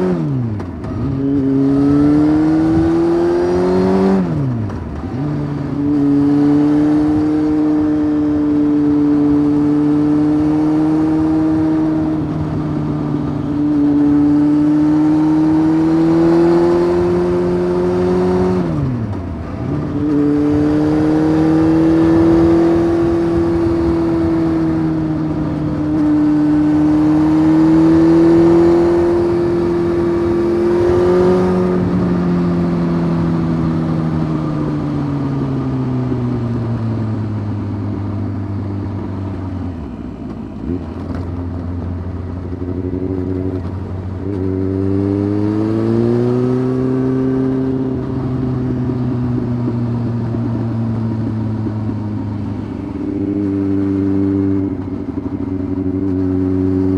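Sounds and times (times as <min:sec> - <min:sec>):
motorcycle engine while riding: 0:00.0 - 0:56.9.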